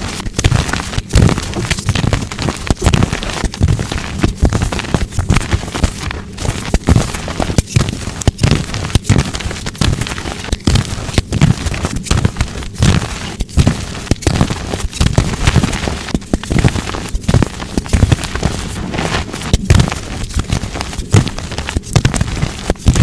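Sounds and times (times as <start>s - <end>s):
chalk being crushed: 0.0s - 23.0s.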